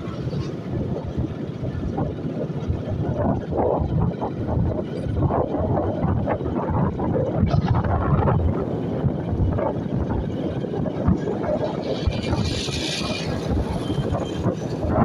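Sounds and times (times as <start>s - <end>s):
vehicle rumble on road: 0.0s - 15.0s
wind buffeting microphone: 0.0s - 15.0s.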